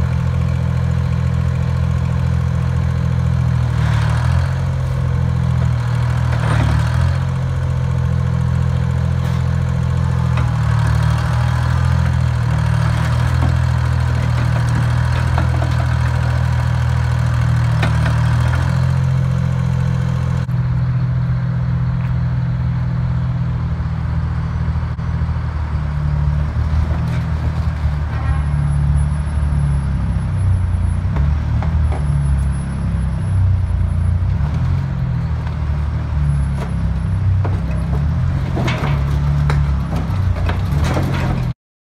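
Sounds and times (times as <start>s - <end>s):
crane diesel engine droning: 0.0s - 41.6s.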